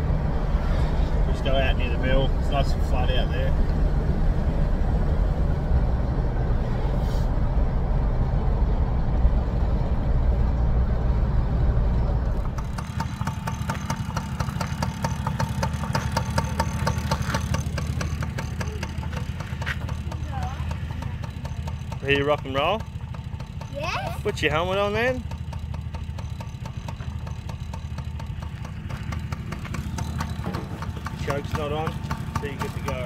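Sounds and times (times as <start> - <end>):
engine idling: 0.0 - 33.0
vehicle rumble inside cab: 0.0 - 33.0.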